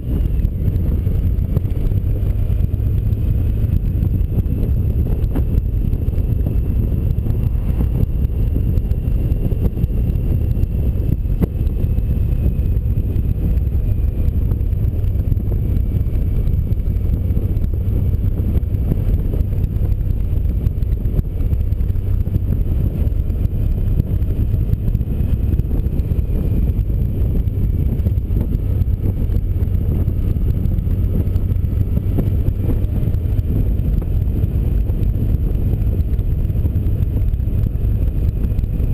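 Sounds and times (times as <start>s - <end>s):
motorcycle road noise: 0.0s - 38.9s
wind buffeting camera: 0.0s - 38.9s
wind rumble: 0.0s - 38.9s.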